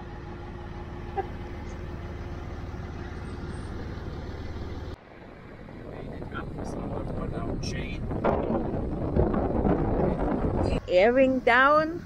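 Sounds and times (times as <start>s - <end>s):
diesel engine rumble inside cab: 0.0s - 12.0s.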